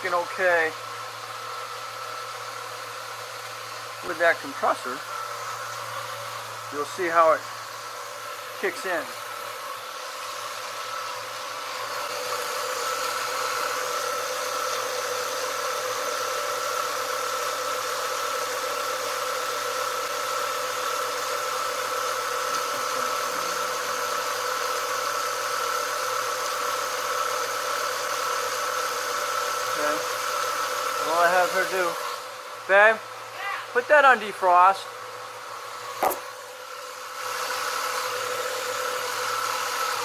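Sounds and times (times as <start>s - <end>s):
steady whining tone: 0.0s - 27.4s, 28.2s - 40.0s.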